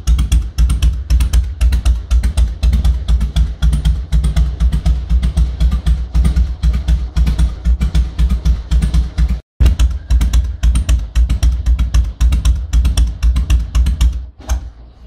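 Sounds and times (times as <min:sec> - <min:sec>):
motorcycle engine idling: 0:00.0 - 0:14.3.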